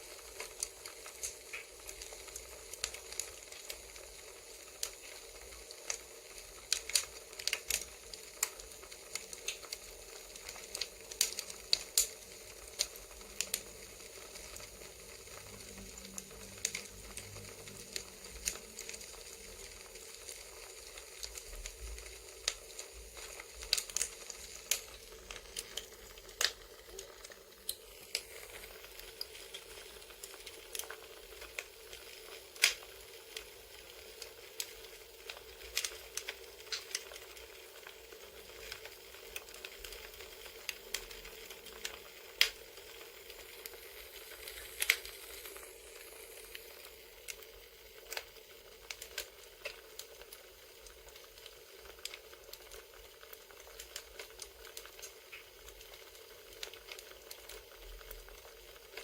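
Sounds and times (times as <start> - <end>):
campfire crackling: 0.0 - 59.0
low hiss: 0.0 - 59.0.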